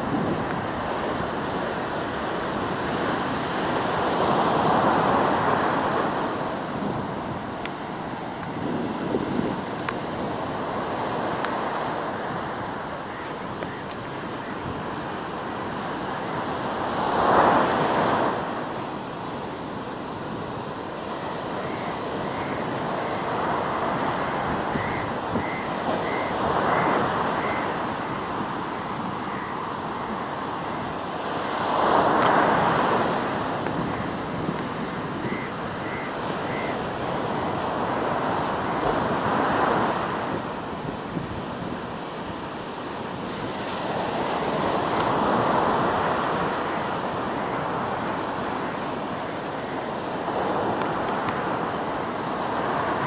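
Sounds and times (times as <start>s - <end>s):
ocean surf washing on beach: 0.0s - 53.0s
waves breaking: 0.0s - 53.0s.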